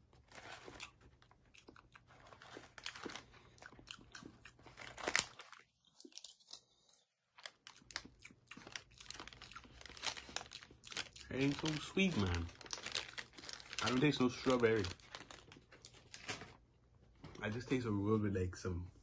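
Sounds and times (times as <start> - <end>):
close-up chewing and mouth noises: 0.0 - 16.2.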